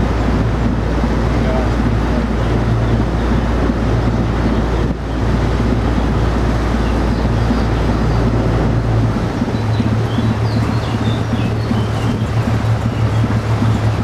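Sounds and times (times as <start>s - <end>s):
ship diesel engine humming: 0.0s - 14.0s
wind on microphone: 0.0s - 14.0s.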